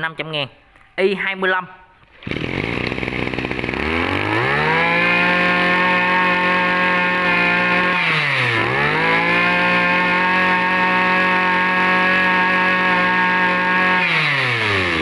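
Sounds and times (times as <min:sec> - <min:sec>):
brush cutter engine revving: 0:02.1 - 0:15.0.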